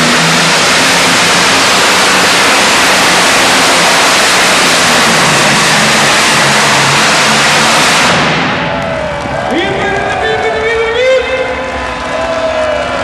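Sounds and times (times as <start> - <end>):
low engine hum: 0.0 - 13.0
tractor engine roaring: 0.0 - 13.0.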